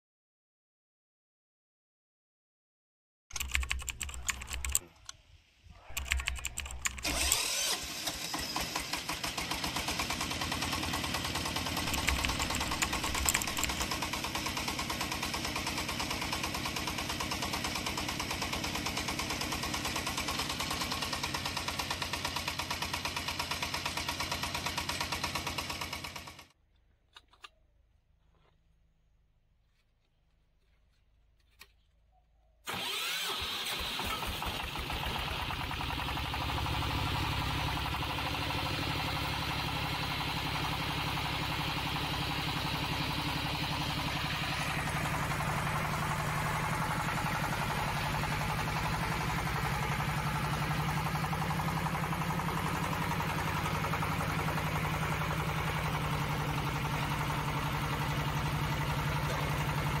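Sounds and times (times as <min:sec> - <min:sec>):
diesel engine starting and running: 0:03.3 - 0:26.6, 0:32.7 - 1:00.0.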